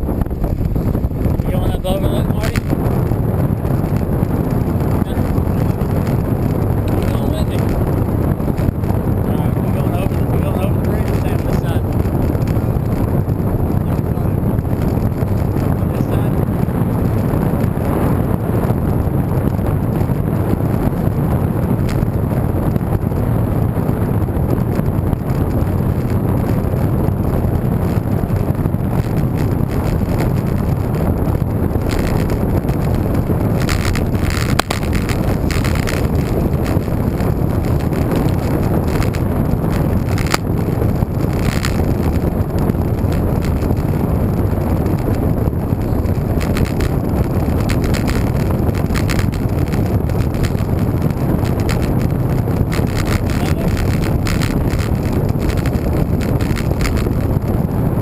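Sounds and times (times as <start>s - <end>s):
wind buffeting microphone: 0.0s - 58.0s
sharp ticks and clicks: 0.3s - 17.1s, 21.8s - 22.2s, 24.6s - 57.6s.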